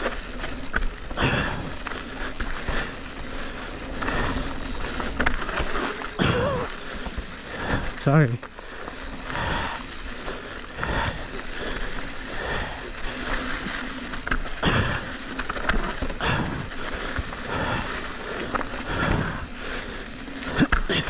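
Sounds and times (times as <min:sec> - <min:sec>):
bike knocking and rattling: 0:00.0 - 0:21.0
rider breathing hard: 0:00.0 - 0:21.0.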